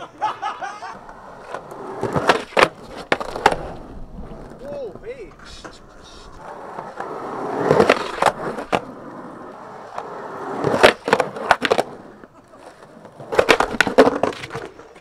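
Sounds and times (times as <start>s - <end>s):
skateboard wheels rolling on asphalt: 0.0s - 15.0s
skateboard tail clacks: 0.8s - 15.0s.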